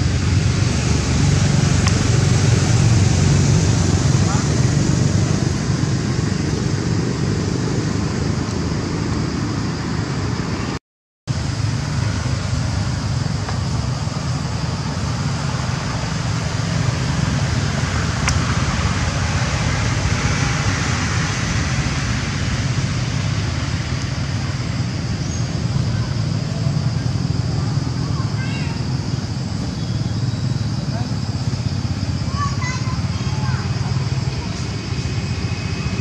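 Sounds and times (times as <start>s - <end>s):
low rumbling background noise: 0.0s - 36.0s.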